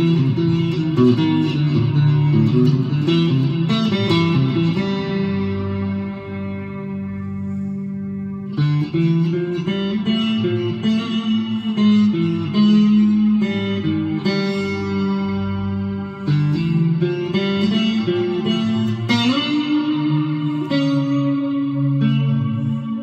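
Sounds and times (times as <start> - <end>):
electric guitar with echo: 0.0 - 23.0.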